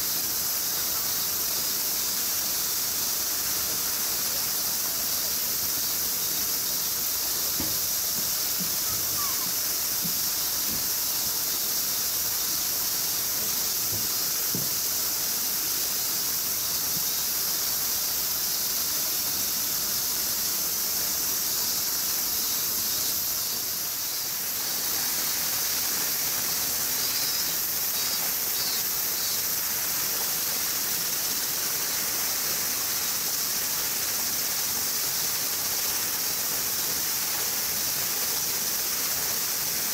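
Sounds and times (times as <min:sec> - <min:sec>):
cicadas chorus: 0:00.0 - 0:39.9.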